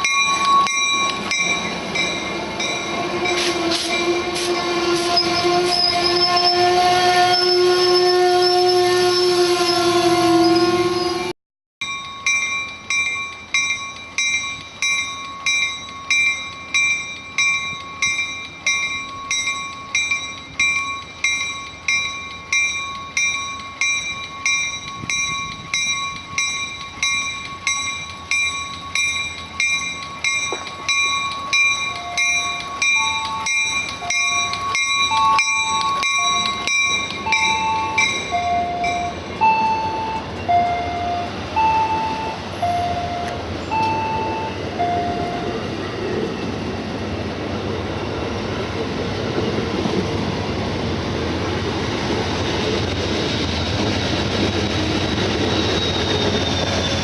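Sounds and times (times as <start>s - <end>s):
railroad warning bell ringing: 0.0s - 46.6s, 52.8s - 57.0s.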